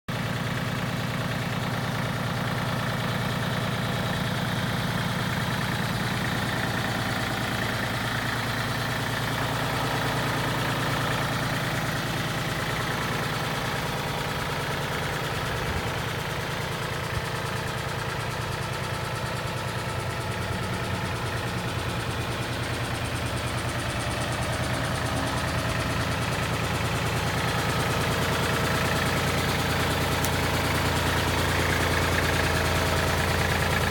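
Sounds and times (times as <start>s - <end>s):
diesel engine running at low revs: 0.1s - 33.9s.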